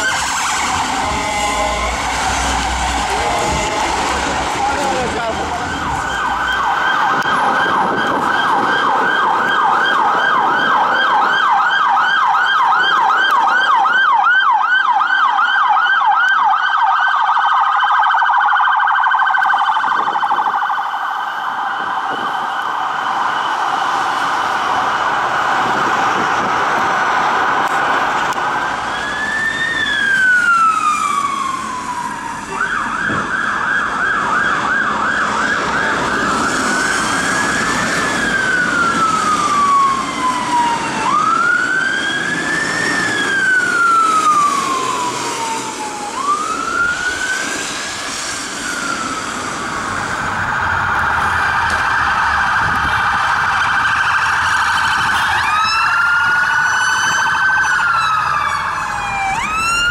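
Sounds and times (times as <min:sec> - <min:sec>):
emergency vehicle sirens: 0:00.0 - 0:59.9.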